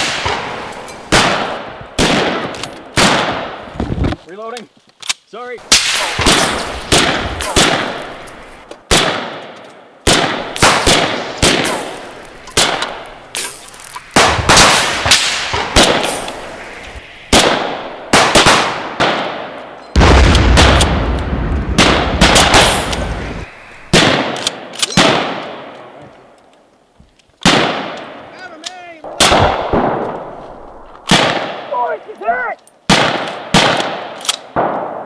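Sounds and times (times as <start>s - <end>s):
rifle shots echoing: 0.0s - 3.7s, 5.6s - 26.0s, 27.4s - 28.2s, 29.0s - 32.0s, 32.9s - 35.0s.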